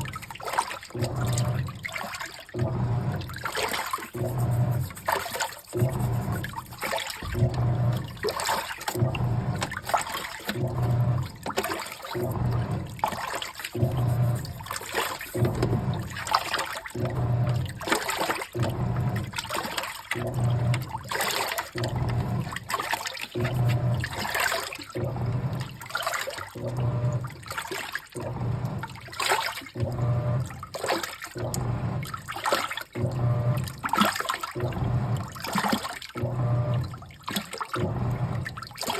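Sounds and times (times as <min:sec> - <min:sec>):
washing machine motor humming: 0:00.0 - 0:38.9
water sloshing in washing machine: 0:00.0 - 0:38.9.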